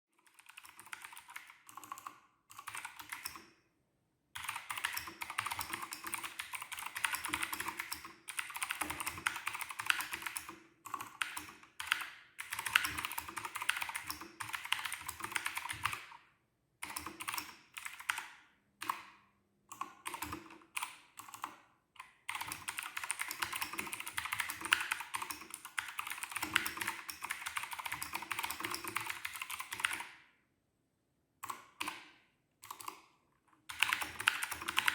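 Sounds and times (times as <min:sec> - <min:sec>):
mechanical keyboard typing: 0:00.2 - 0:03.4, 0:04.4 - 0:16.2, 0:16.8 - 0:19.1, 0:19.7 - 0:30.2, 0:31.4 - 0:34.9.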